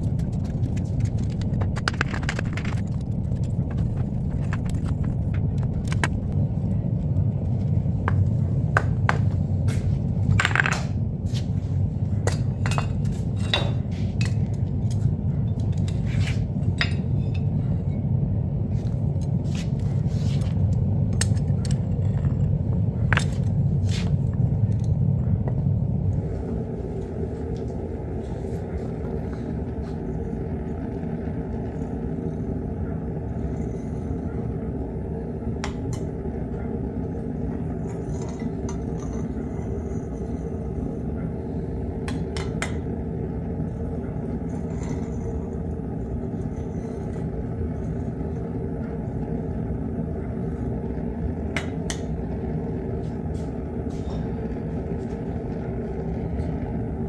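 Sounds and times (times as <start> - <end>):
furnace burner rumbling: 0.0 - 57.0.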